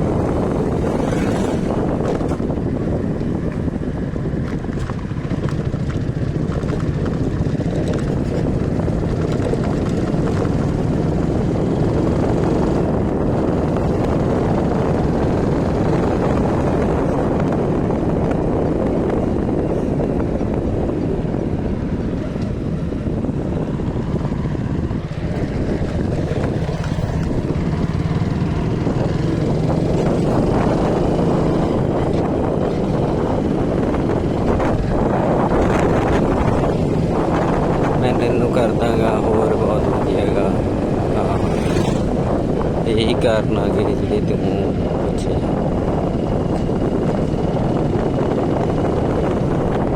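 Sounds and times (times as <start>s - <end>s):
low engine hum: 0.0s - 49.9s
vehicle engine and road noise: 0.0s - 49.9s
wind rushing over microphone: 0.0s - 49.9s.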